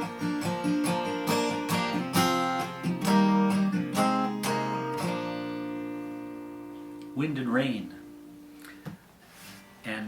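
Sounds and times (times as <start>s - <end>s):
acoustic guitar strummed: 0.0s - 8.8s.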